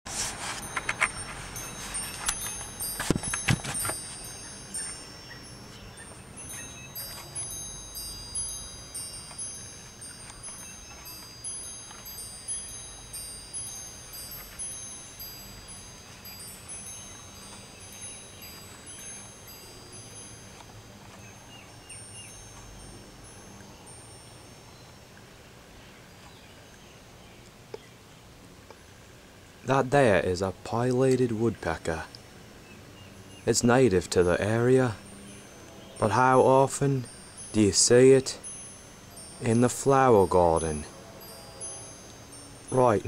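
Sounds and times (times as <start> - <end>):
chimes ringing: 0.2 - 27.2, 33.0 - 43.0.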